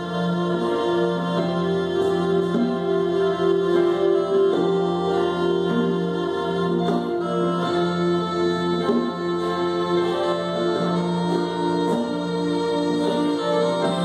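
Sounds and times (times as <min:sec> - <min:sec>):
small band playing christmas song: 0:00.0 - 0:14.0.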